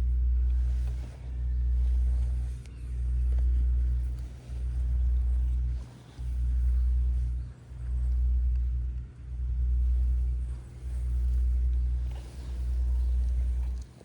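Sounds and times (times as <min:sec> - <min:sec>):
cat purring: 0:00.4 - 0:14.0.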